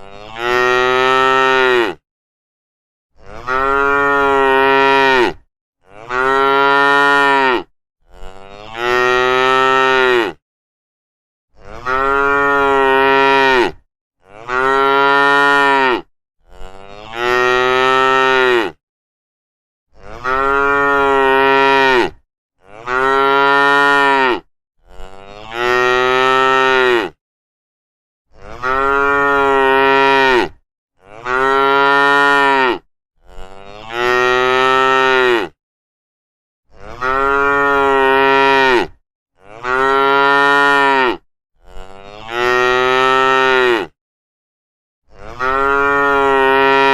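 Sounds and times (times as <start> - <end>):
cows mooing: 0.1 - 2.0, 3.3 - 10.4, 11.6 - 18.8, 20.0 - 27.2, 28.4 - 35.6, 36.8 - 44.0, 45.2 - 46.9.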